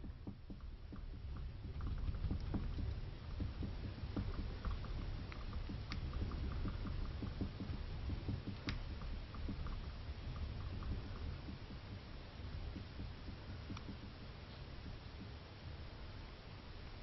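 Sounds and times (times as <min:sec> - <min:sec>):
sharp ticks: 0:00.0 - 0:15.4
building creaking and rattling: 0:00.0 - 0:16.0
low rumble: 0:00.0 - 0:16.8
rapid small clicks and knocks: 0:00.0 - 0:17.0.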